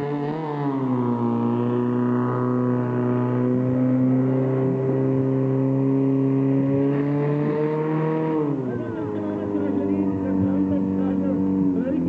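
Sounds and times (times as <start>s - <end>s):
pump engine running at high revs: 0.0s - 12.0s.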